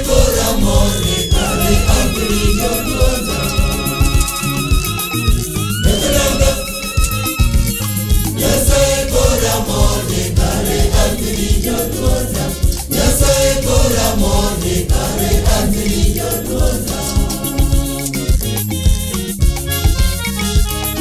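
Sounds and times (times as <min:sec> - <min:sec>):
choir singing gospel: 0:00.0 - 0:19.3
instrumental backing with bass: 0:00.0 - 0:21.0.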